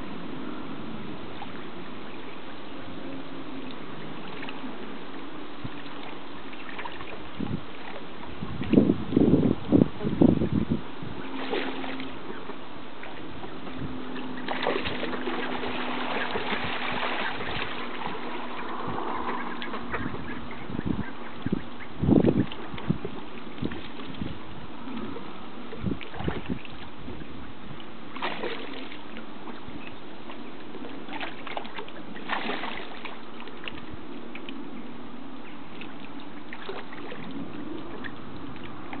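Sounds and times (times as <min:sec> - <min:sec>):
rushing water: 0:00.0 - 0:39.0
ducks splashing in water: 0:03.5 - 0:08.9, 0:10.0 - 0:34.6, 0:35.4 - 0:39.0.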